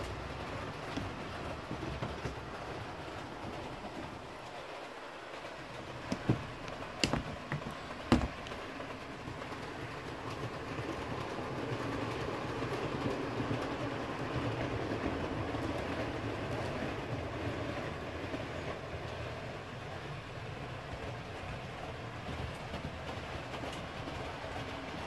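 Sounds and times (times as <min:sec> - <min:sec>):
model train rumbling on track: 0:00.0 - 0:25.0.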